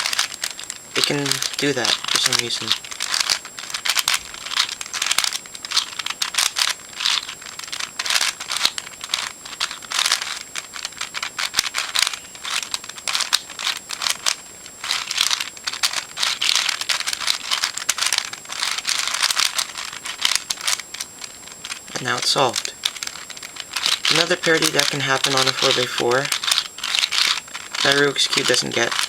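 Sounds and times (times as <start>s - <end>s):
plastic puzzle clicking and scraping: 0.0s - 29.0s.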